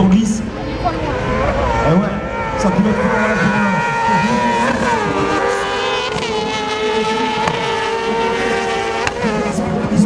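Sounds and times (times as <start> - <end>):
buggy engines at high revs: 0.0 - 10.0.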